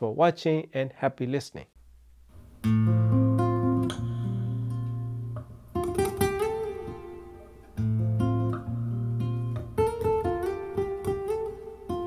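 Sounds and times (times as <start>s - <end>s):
acoustic guitar over speakers: 2.3s - 12.0s.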